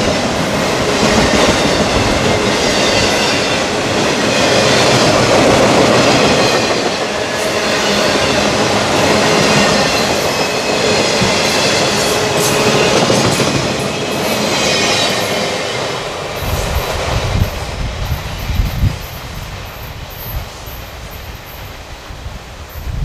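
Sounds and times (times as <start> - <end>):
wind buffeting microphone: 0.0 - 14.3, 16.0 - 23.0
train wheels clattering on rail: 0.0 - 21.9.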